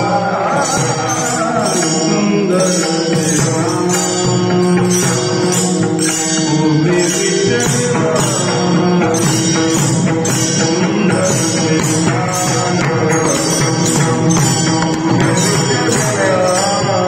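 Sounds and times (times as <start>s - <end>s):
jingling percussion beat: 0.0s - 17.0s.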